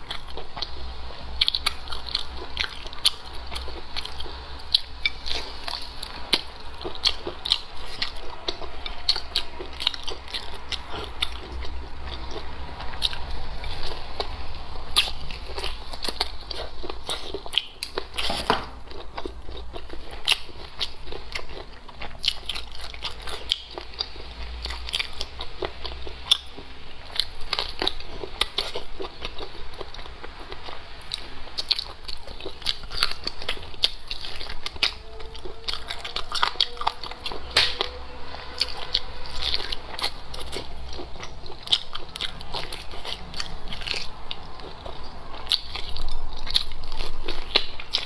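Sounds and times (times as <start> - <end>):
person chewing wetly: 0.0 - 48.0.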